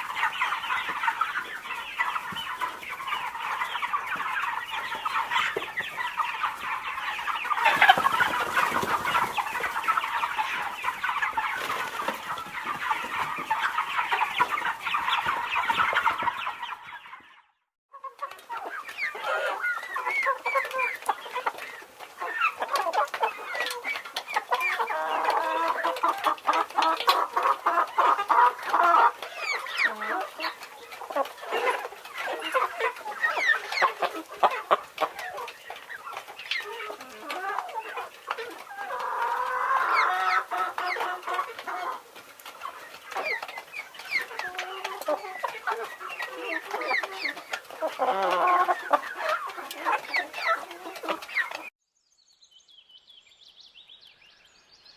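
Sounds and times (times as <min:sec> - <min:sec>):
chickens clucking: 0:00.0 - 0:51.7.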